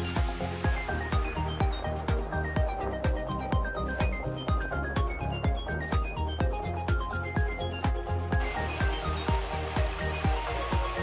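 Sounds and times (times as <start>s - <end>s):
electronic dance music: 0.0s - 11.0s
kick drum: 0.2s - 11.0s.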